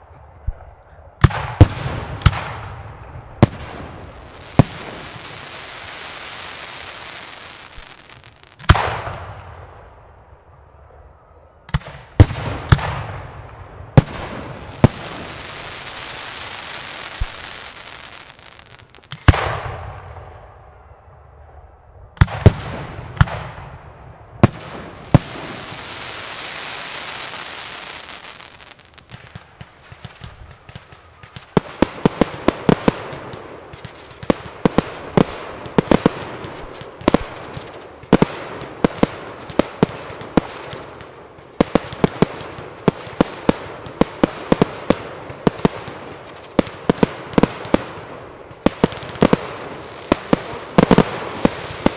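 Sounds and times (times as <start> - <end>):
hissing firework effects: 1.2 - 9.5, 14.0 - 20.2, 22.2 - 51.9
firework bangs: 1.2 - 9.7, 11.7 - 20.4, 22.2 - 51.9.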